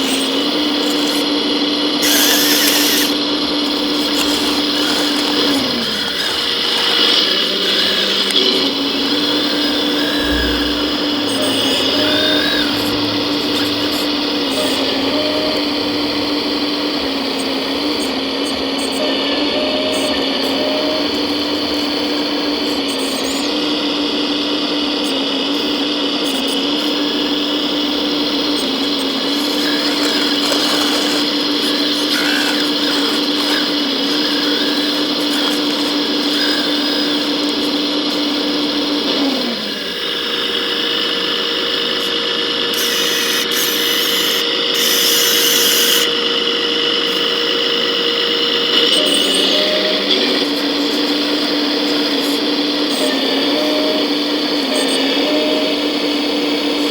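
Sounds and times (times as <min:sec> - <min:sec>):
electric motor whine: 0:00.0 - 0:56.9
higher steady whine: 0:00.0 - 0:56.9.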